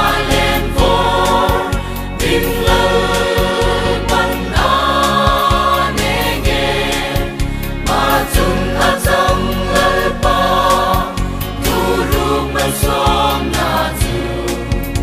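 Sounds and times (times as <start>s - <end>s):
steady beat: 0.0s - 13.3s
choir singing gospel song: 0.0s - 15.0s
instrumental accompaniment: 0.0s - 15.0s.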